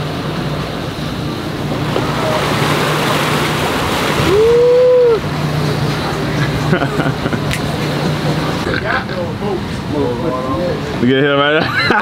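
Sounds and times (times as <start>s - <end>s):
boat engine hum: 0.0s - 12.0s
water rushing past boat: 0.0s - 12.0s
wind: 0.0s - 12.0s.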